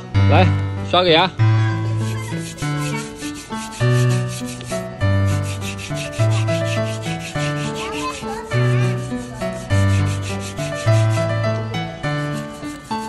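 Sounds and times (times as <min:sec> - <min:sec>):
background music: 0:00.0 - 0:13.0
brush scrubbing tusk: 0:01.8 - 0:13.0.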